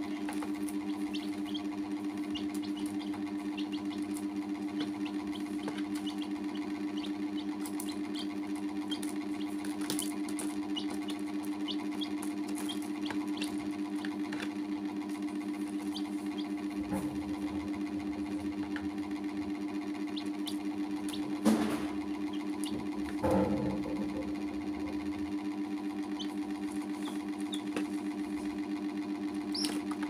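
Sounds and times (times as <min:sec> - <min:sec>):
chicks peeping: 0:00.0 - 0:23.2, 0:26.0 - 0:28.0, 0:29.5 - 0:30.0
pulsing mechanical hum: 0:00.0 - 0:30.0.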